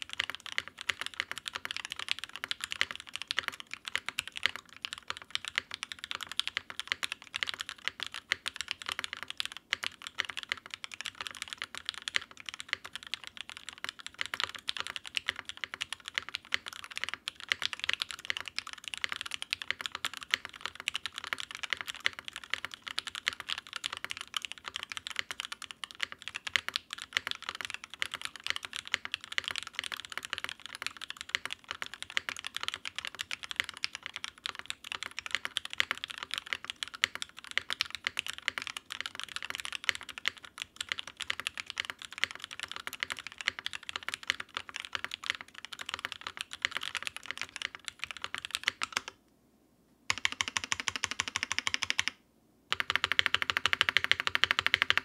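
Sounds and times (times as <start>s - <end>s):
mechanical keyboard typing: 0.0s - 49.2s, 50.1s - 55.0s.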